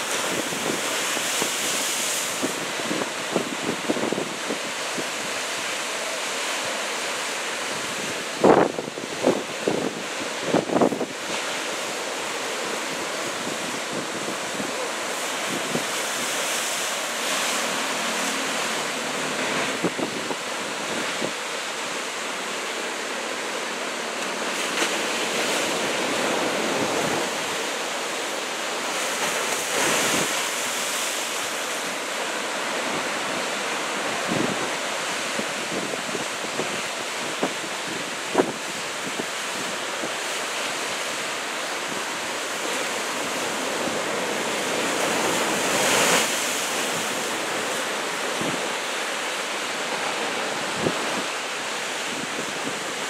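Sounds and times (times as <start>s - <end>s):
heavy surf breaking: 0.0s - 53.0s.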